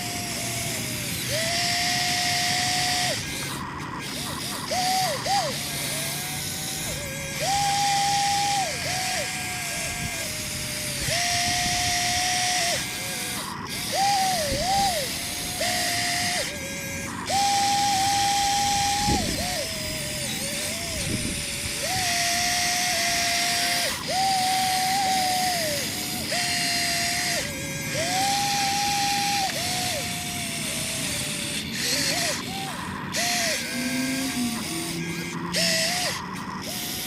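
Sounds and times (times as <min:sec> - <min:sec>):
electric motors whining: 0:00.0 - 0:37.0.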